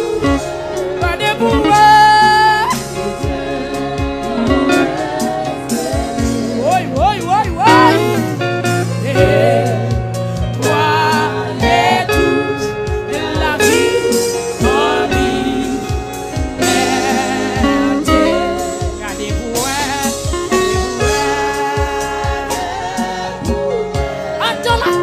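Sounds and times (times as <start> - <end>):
band accompaniment: 0.0 - 25.0
gospel hymn singing: 0.0 - 25.0
steady drum beat: 0.0 - 25.0.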